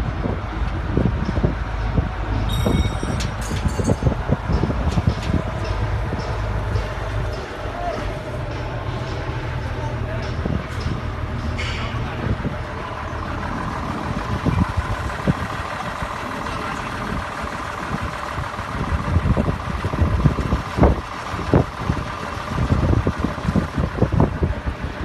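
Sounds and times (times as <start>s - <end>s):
truck engine running: 0.0s - 25.0s
wind buffeting microphone: 0.0s - 25.0s.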